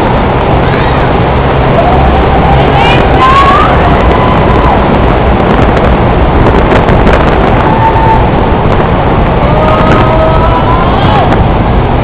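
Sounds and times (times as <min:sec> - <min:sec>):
faint traffic whine: 0:00.0 - 0:12.0
road noise in tunnel: 0:00.0 - 0:12.0
wind rumbling on microphone: 0:00.0 - 0:12.0.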